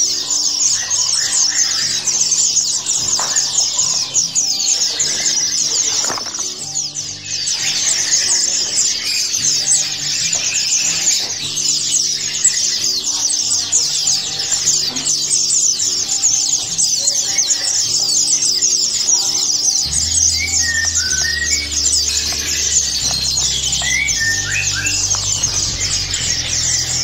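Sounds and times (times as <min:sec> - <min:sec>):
soft music: 0:00.0 - 0:27.0
songbirds chirping and twittering: 0:00.0 - 0:27.0.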